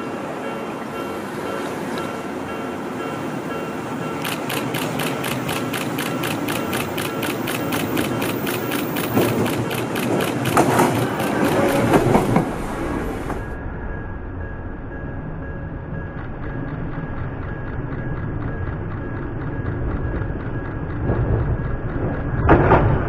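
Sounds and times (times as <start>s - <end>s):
train wheels clicking on track: 0.0s - 13.6s, 16.0s - 23.0s.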